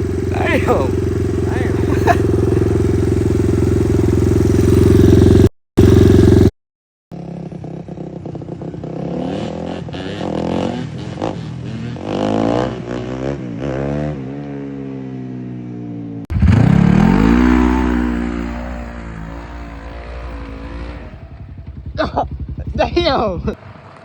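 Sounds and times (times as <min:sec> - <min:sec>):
dirt bike engine revving: 0:00.0 - 0:06.5, 0:07.3 - 0:14.5, 0:16.3 - 0:23.6.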